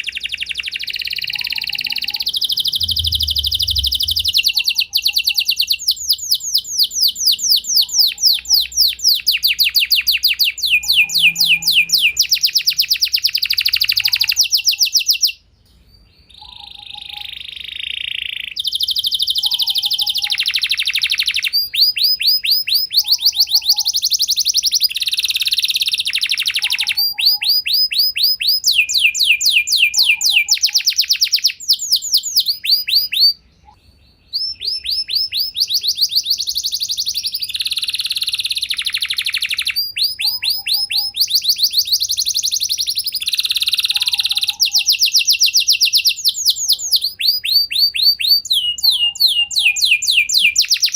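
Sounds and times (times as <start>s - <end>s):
canary singing rapid trills: 0.0s - 50.9s.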